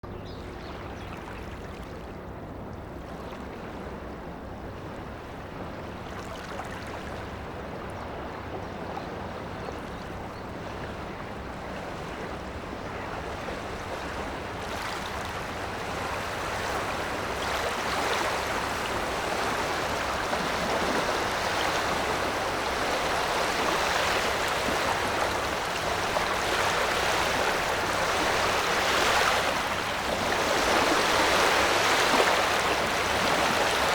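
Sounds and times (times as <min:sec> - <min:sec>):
waves washing along a river: 0:00.1 - 0:33.9.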